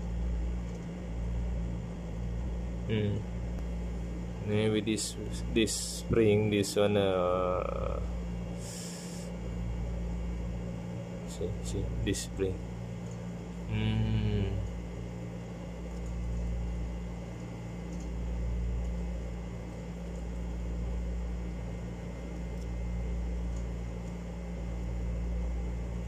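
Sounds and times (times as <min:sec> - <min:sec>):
low machine hum with rumble: 0:00.0 - 0:26.0.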